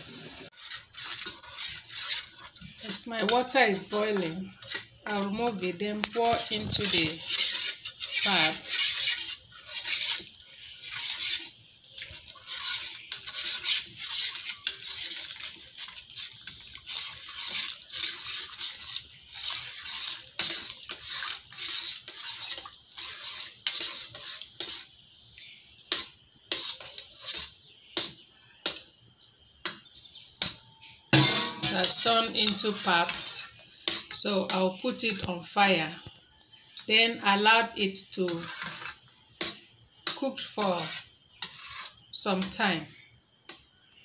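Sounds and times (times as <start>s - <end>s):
metal spoon scraping a pot: 0.4s - 28.9s, 29.6s - 36.0s, 37.0s - 42.8s.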